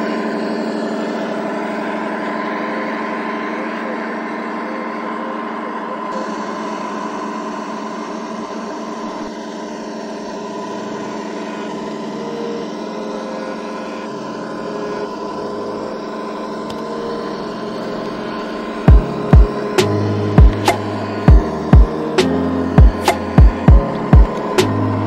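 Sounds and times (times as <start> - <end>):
simulated diesel engine from speaker: 0.0 - 25.0.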